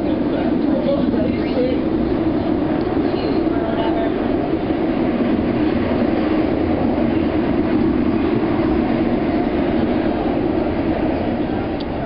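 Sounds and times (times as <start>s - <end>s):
train wheels and motors rumbling: 0.0s - 12.0s.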